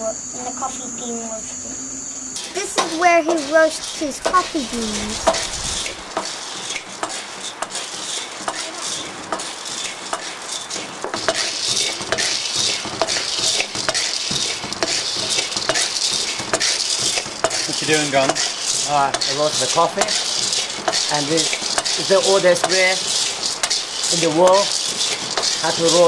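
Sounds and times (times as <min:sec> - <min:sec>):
beans rattling clicks: 0:02.4 - 0:26.0
beans scraping over metal: 0:02.4 - 0:26.0.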